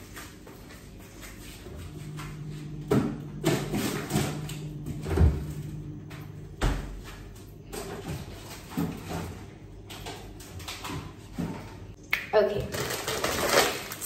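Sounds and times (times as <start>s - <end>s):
refrigerator hum: 0.0s - 14.0s
groceries knocking and rustling: 1.9s - 14.0s.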